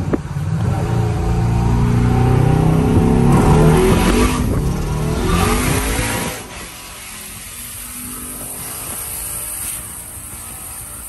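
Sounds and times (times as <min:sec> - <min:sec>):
truck engine accelerating hard: 0:00.0 - 0:11.0.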